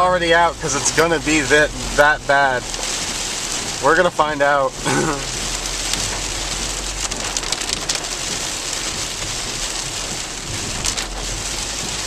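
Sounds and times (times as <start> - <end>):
heavy rain on a car: 0.0 - 12.0.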